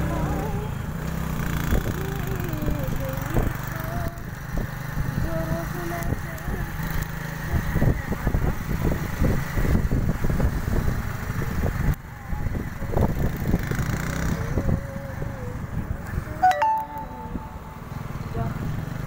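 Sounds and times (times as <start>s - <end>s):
traffic passing close by: 0.0s - 16.4s, 17.4s - 19.0s
wind buffeting microphone: 0.0s - 16.4s
vehicle road noise: 0.0s - 19.0s.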